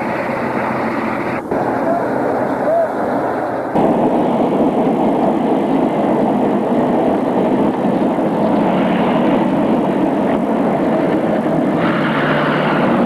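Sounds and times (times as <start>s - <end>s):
tank engine running: 0.0s - 13.0s.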